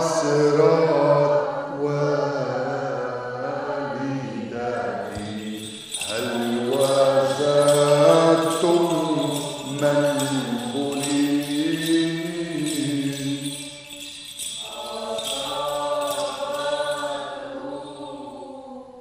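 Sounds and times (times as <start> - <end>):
voices chanting a hymn: 0.0 - 19.0.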